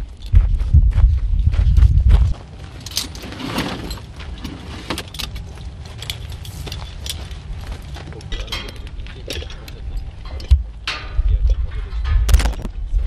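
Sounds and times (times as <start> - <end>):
metal climbing gear clinking: 0.0 - 0.4, 2.4 - 12.7.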